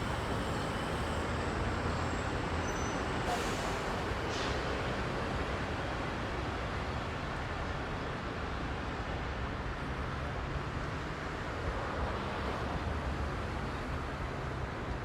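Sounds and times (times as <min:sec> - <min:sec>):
heavy city traffic: 0:00.0 - 0:15.0.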